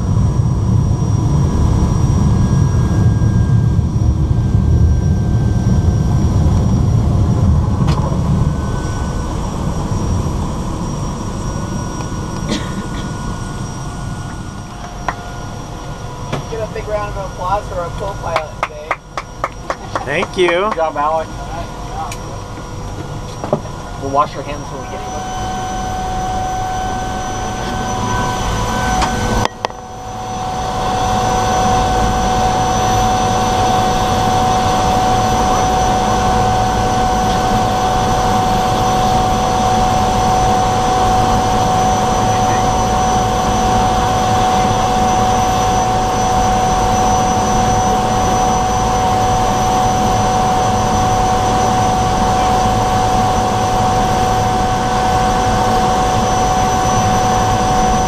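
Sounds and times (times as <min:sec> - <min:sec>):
high propeller whine: 0:00.0 - 0:58.0
seaplane engine drone: 0:00.0 - 0:58.0.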